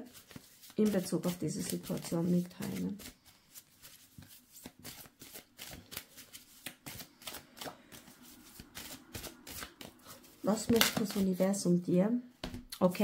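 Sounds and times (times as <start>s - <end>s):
cards being shuffled: 0.1s - 11.4s.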